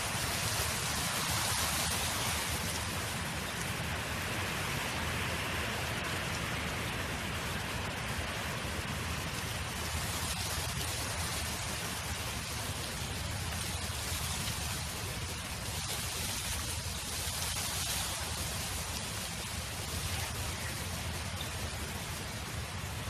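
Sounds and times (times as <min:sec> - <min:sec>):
wind blowing: 0:00.0 - 0:23.0.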